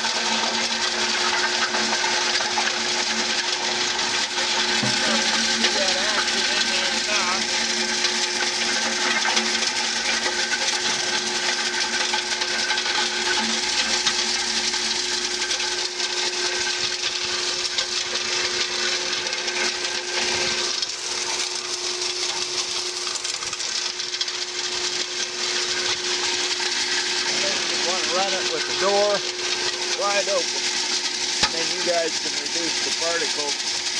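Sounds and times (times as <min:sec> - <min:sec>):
machine hum and whir: 0:00.0 - 0:33.9.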